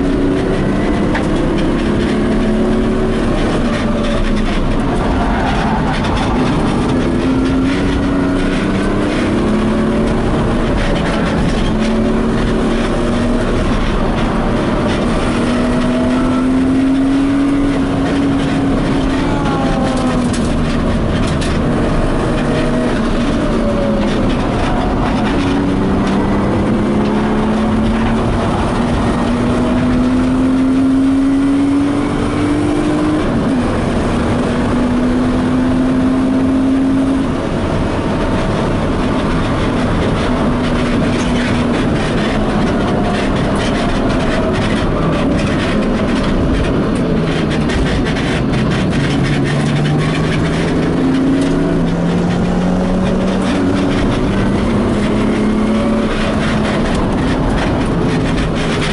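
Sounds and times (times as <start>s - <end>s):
car engine accelerating: 0.0s - 58.9s
road and wind noise: 0.0s - 58.9s.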